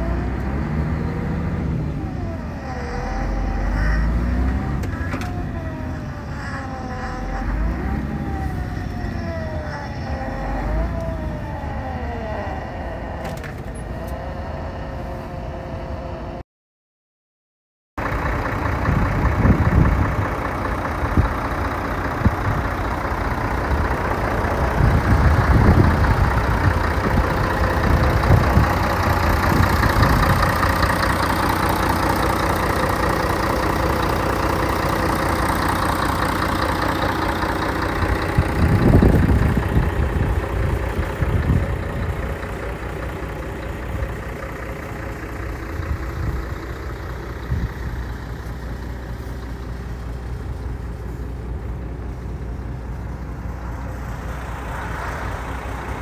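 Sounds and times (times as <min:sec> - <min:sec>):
diesel truck engine idling: 0:00.0 - 0:16.4, 0:18.0 - 0:56.0.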